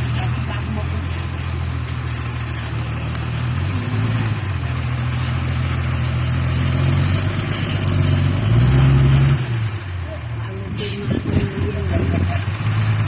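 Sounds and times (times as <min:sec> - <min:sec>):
diesel truck engine reversing: 0:00.0 - 0:13.0.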